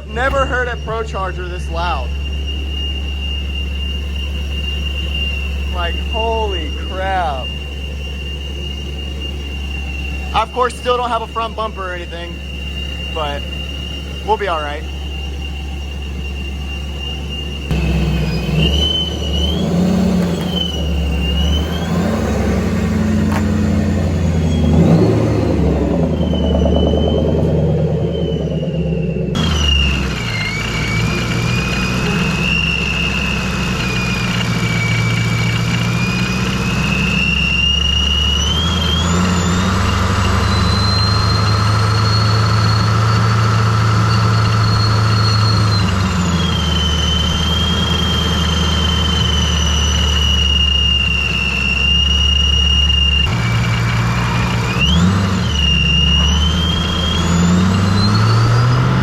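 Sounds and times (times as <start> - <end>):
engine low rumble: 0.0 - 59.0
supercharger whine: 0.0 - 59.0.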